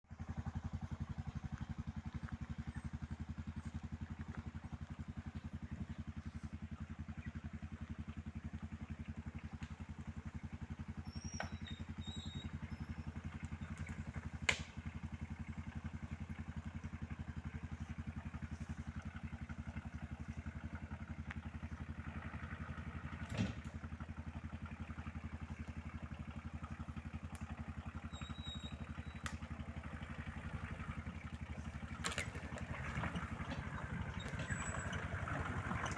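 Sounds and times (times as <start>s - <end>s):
engine running: 0.1s - 35.9s.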